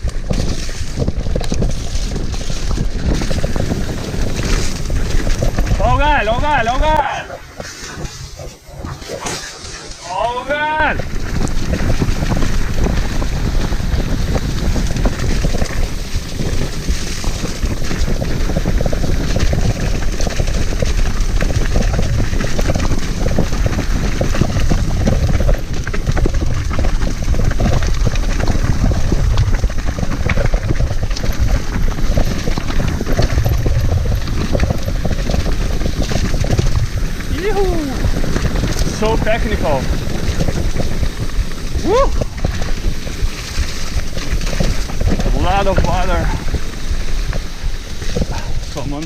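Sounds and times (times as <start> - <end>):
bike rattling over bumps: 0.0 - 49.0
bike tyres rumbling on trail: 0.0 - 49.0
wind buffeting microphone: 0.0 - 49.0.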